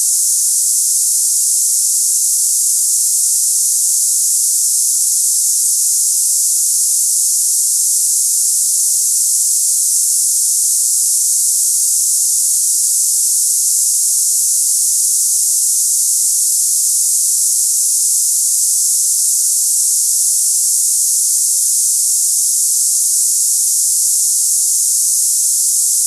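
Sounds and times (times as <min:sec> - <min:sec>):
steady high-pitched hiss: 0:00.0 - 0:26.0.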